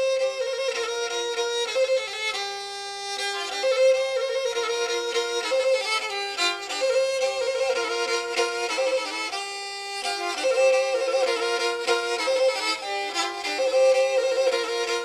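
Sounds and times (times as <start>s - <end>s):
bowed string instrument melody: 0.0s - 15.0s.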